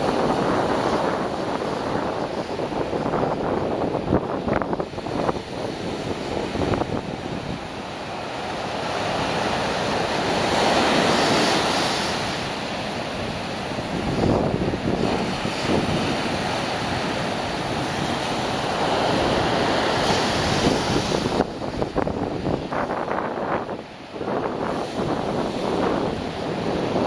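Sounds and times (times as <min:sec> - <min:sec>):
surf breaking on beach: 0:00.0 - 0:27.0.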